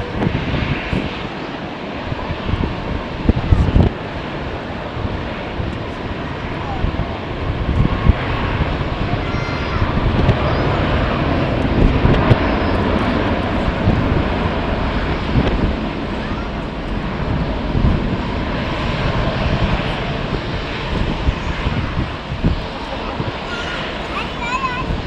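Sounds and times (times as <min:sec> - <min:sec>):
airliner engine rushing: 0:00.0 - 0:25.0
wind buffeting microphone: 0:00.0 - 0:25.0.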